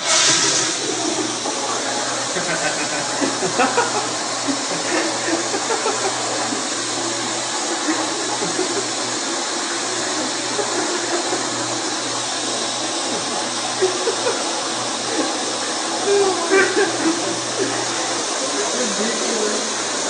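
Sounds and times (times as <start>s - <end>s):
toilet flushing: 0.0s - 20.0s.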